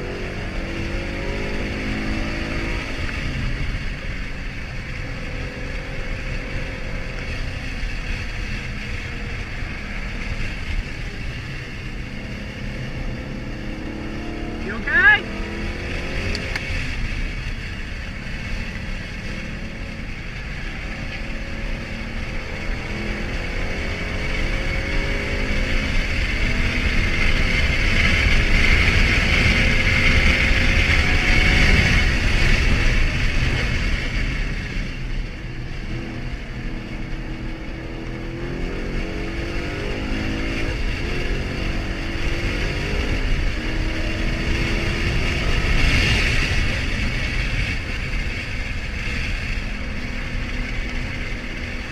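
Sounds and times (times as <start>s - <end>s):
car engine revving through gears: 0.0s - 51.9s
road and wind noise: 0.0s - 51.9s.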